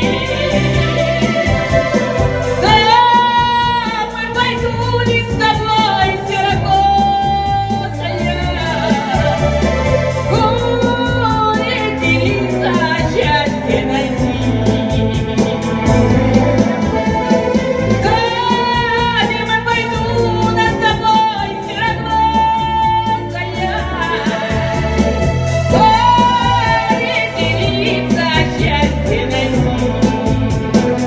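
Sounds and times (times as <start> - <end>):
backing track with beat and bass: 0.0 - 31.0.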